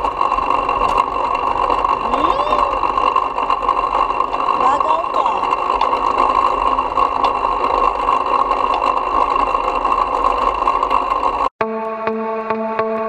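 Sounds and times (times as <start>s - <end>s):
bike mechanical running noise: 0.0s - 11.5s.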